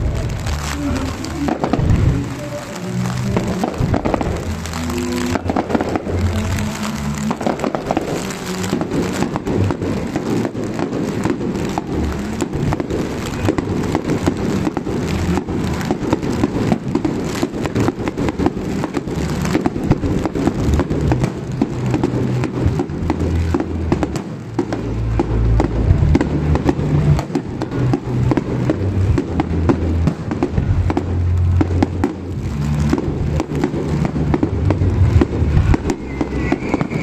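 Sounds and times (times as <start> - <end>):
fireworks crackling: 0.0 - 37.0.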